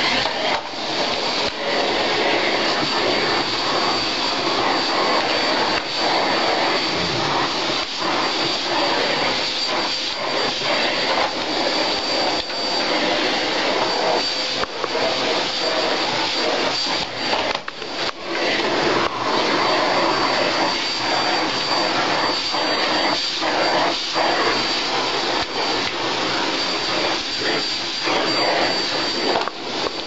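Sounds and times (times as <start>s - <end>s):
vacuum cleaner suction whine: 0.0s - 30.0s.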